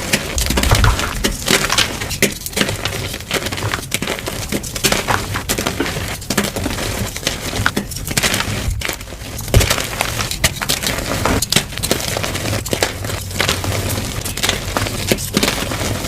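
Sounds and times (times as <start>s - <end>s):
chalk crushed by hand: 0.0s - 16.0s.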